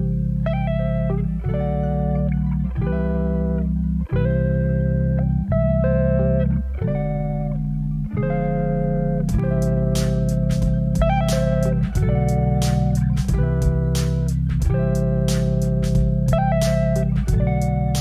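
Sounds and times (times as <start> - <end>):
guitar instrumental music: 0.0 - 18.0.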